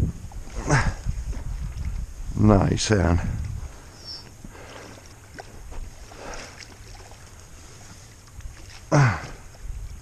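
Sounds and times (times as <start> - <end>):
wind rumbling on microphone: 0.0 - 10.0
faint water splashes: 0.5 - 10.0.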